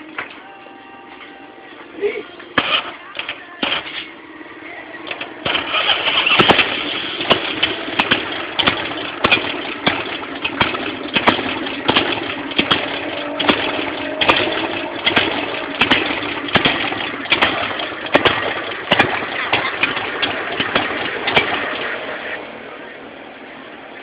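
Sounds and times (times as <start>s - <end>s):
motorcycle engine starting and idling: 2.5s - 23.0s
sharp engine crack: 2.6s - 4.1s, 5.0s - 22.9s.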